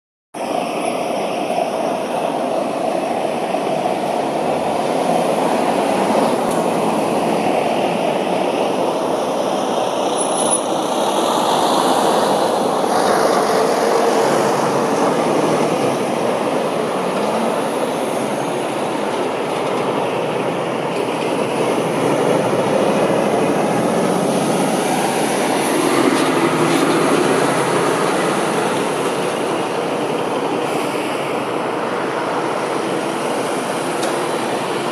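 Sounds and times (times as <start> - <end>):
traffic rumble of engines and tyres: 0.4 - 34.9
refuse lorry driving past: 2.1 - 34.9.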